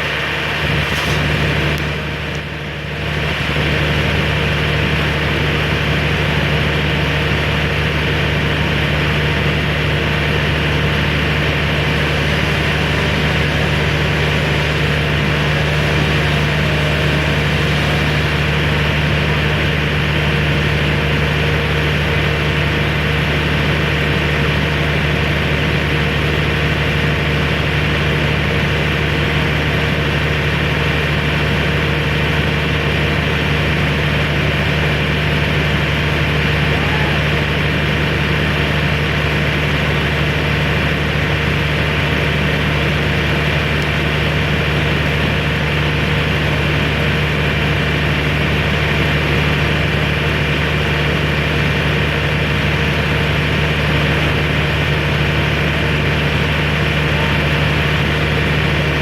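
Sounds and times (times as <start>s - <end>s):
engine droning steadily: 0.0s - 59.0s.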